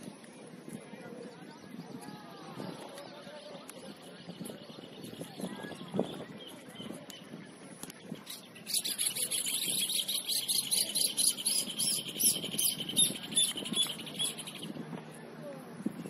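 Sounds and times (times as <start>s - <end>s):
songbird chirping and trilling: 0.9s - 14.8s.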